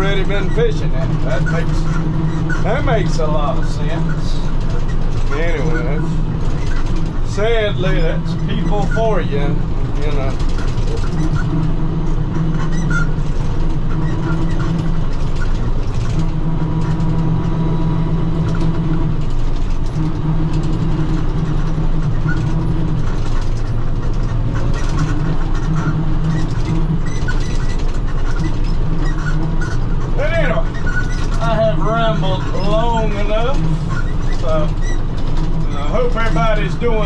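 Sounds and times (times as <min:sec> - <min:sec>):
rotary cutter through grass: 0:00.0 - 0:37.0
tractor engine droning: 0:00.0 - 0:37.0.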